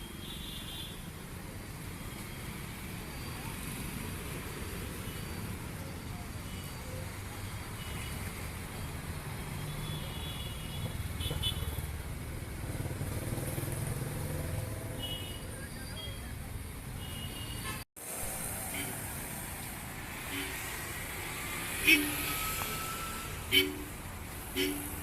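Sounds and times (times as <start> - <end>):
traffic engines rumbling: 0.0 - 25.0.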